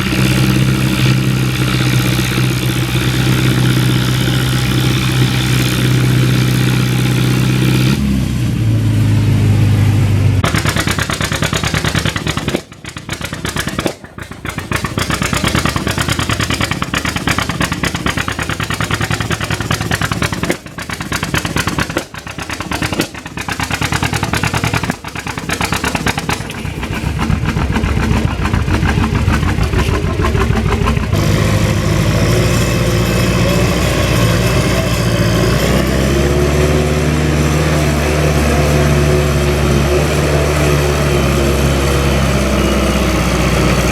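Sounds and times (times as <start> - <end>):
tractor engine running hard: 0.0 - 43.9.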